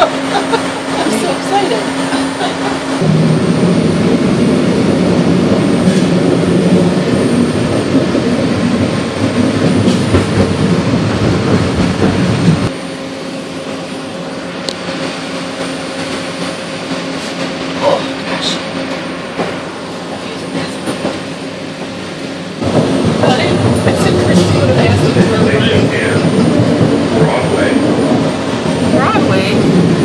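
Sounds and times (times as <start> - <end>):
train car rumbling on track: 0.0 - 30.0.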